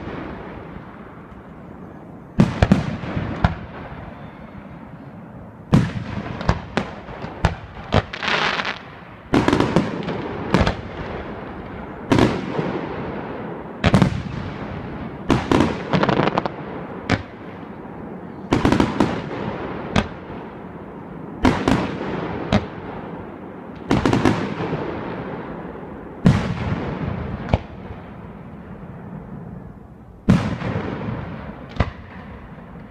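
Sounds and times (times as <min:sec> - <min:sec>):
fireworks bursting: 0:00.0 - 0:32.9.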